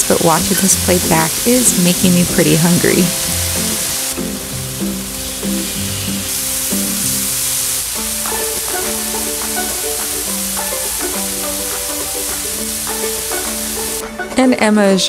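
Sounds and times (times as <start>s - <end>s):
chicken sizzling on a griddle: 0.0s - 14.0s
light background music: 0.0s - 15.0s.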